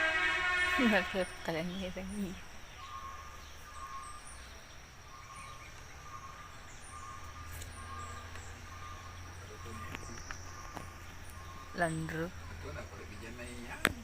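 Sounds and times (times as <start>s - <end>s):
steady low hum: 0.0s - 14.0s
small birds chirping: 0.6s - 14.0s.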